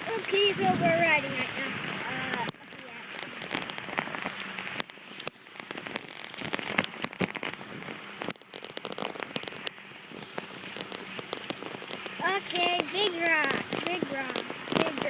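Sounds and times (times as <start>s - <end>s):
bicycle tyres crunching on stones: 0.0s - 15.0s
bike rattling over stones: 0.0s - 15.0s.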